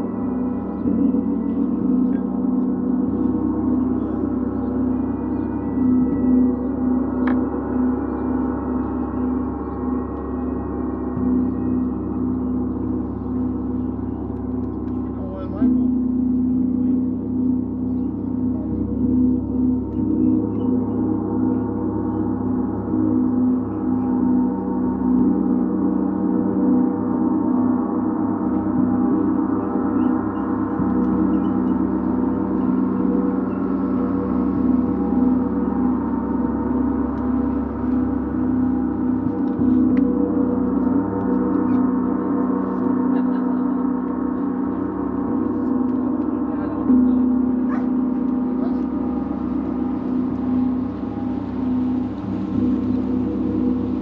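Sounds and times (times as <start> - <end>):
gong ringing: 0.0 - 54.0.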